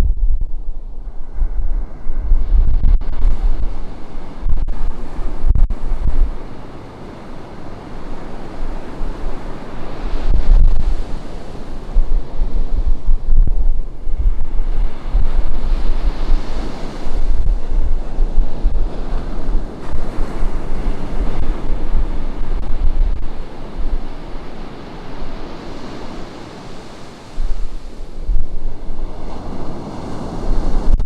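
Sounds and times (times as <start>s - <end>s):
wind buffeting microphone: 0.0s - 31.0s
ocean surf washing onto beach: 0.5s - 31.0s.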